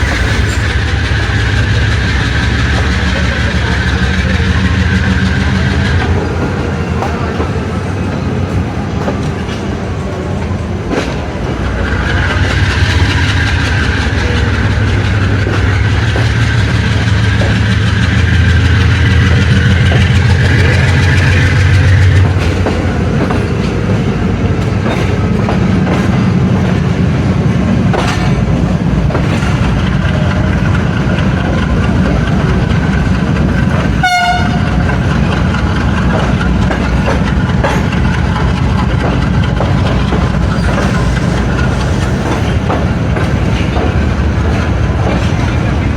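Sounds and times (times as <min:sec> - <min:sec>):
locomotive engine chugging: 0:00.0 - 0:45.9
wheels clicking over rail joints: 0:08.5 - 0:45.9.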